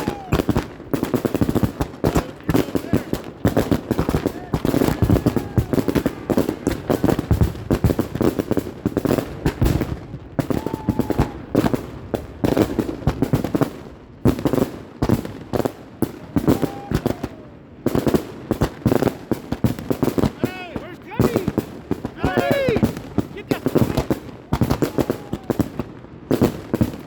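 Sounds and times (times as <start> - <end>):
fireworks popping and banging: 0.0 - 27.0.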